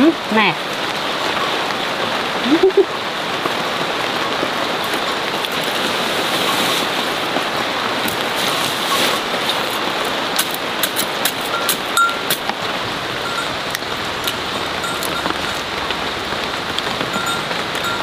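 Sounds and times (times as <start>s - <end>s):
rain on leaves: 0.0s - 18.0s.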